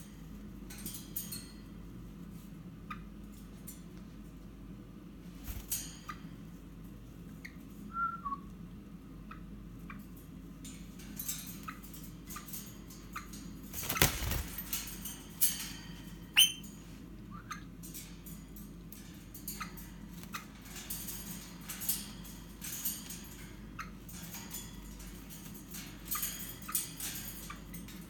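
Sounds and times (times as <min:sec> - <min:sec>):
light clicks and rustles in birdcage: 0:00.0 - 0:07.9, 0:09.2 - 0:28.0.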